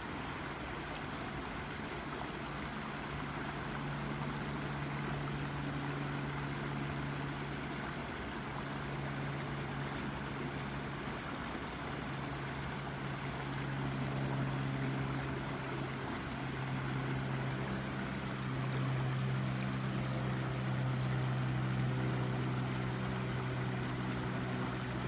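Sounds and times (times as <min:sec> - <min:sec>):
brook water babbling over rock: 0:00.0 - 0:25.0
low mechanical hum: 0:00.0 - 0:25.0.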